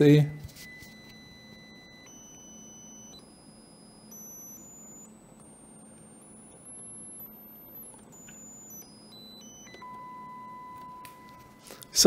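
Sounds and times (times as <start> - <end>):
faint sine test tone: 0.0 - 12.0.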